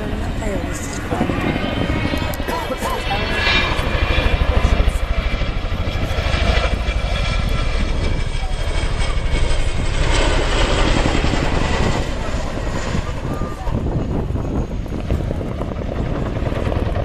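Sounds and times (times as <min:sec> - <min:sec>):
helicopter rotor beat: 0:00.0 - 0:17.0
turbine whine: 0:00.0 - 0:17.0.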